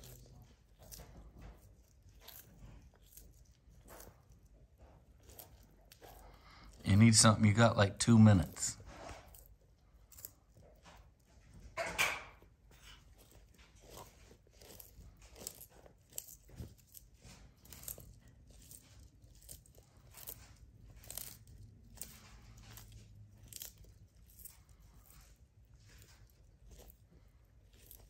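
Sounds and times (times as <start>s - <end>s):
tortoise chewing crunches: 0.0s - 28.0s.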